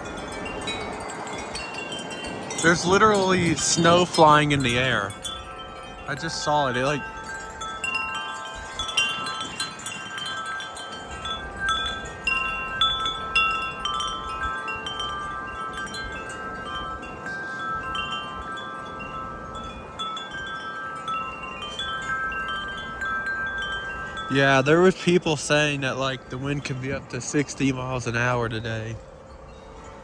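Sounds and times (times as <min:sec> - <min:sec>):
wind chimes ringing: 0:00.0 - 0:30.0
wind rumbling on microphone: 0:00.0 - 0:30.0.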